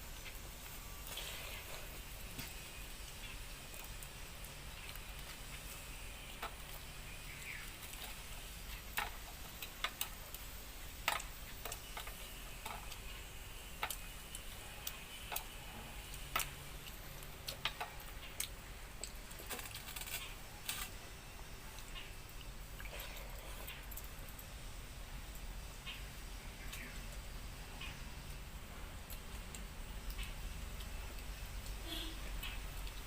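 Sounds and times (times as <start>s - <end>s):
faint background noise: 0.0s - 33.0s.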